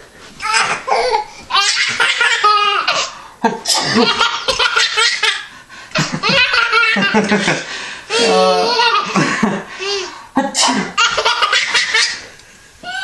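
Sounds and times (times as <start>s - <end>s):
baby laughing: 0.4s - 9.2s, 11.0s - 13.0s.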